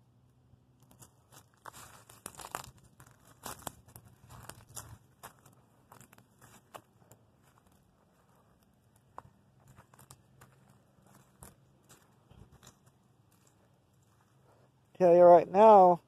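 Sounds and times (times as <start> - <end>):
faint clicks and crackles: 0.7 - 14.3.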